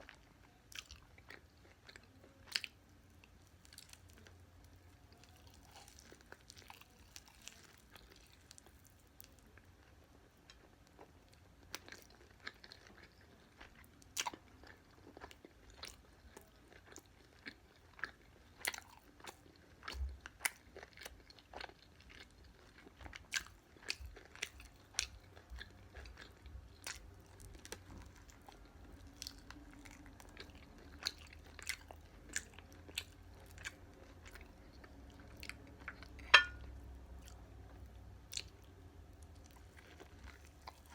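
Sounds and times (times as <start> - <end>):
chewing crispy fried chicken: 0.0 - 40.9.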